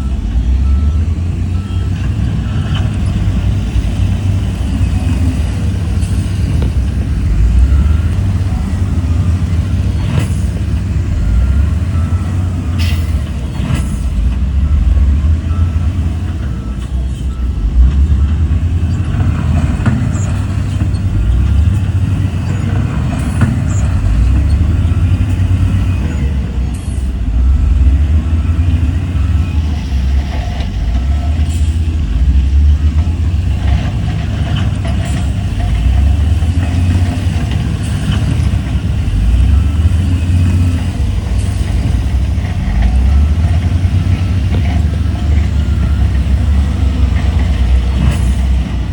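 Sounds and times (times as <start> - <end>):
heavy diesel engine rumbling: 0.0 - 48.9.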